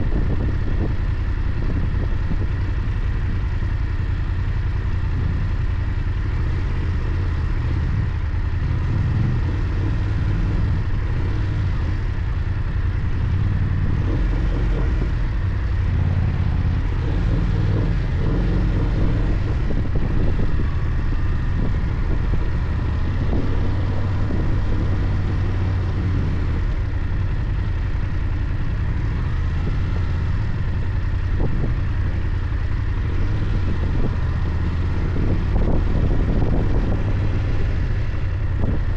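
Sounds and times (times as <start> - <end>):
motorcycle engine rumble: 0.0 - 38.9
wind and road noise: 0.0 - 38.9.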